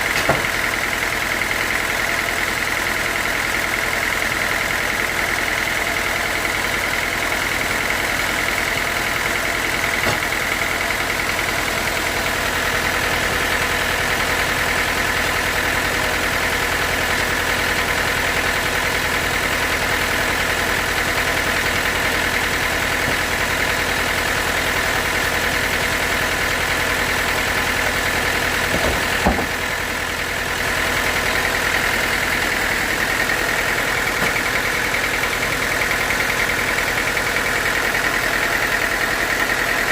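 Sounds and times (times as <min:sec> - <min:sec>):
sawmill sawing log: 0:06.6 - 0:39.9.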